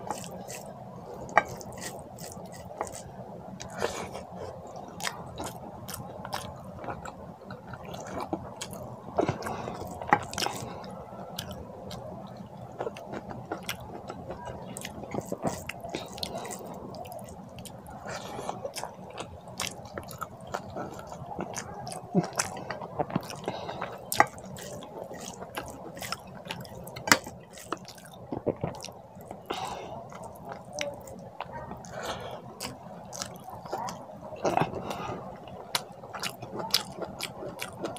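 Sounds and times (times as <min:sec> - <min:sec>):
chewing and mouth smacks: 0:00.0 - 0:37.9.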